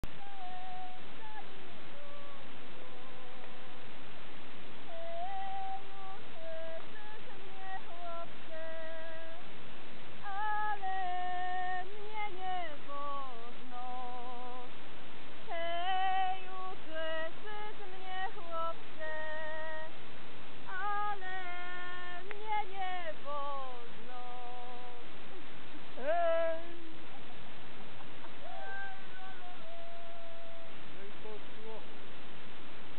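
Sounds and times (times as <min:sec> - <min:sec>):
person singing folk tune: 0:00.0 - 0:20.0, 0:20.6 - 0:32.0.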